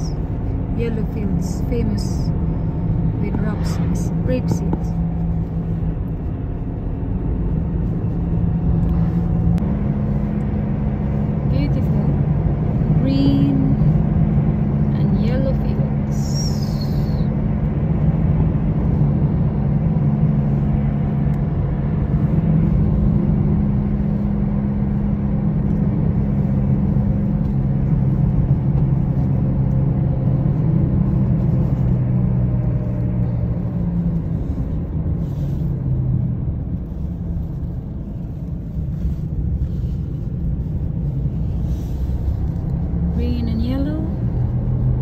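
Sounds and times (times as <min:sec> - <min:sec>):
low engine hum: 0:00.0 - 0:45.0
tyre and road rumble: 0:00.0 - 0:45.0.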